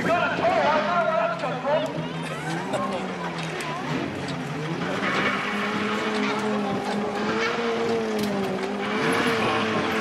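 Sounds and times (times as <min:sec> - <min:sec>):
racing car engine at high revs: 0:00.0 - 0:10.0.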